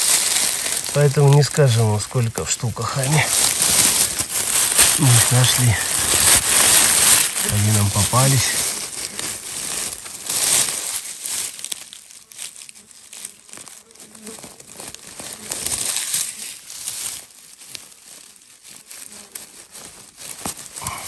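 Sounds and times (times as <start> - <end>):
crinkling crackling rustle: 0.0 - 21.0.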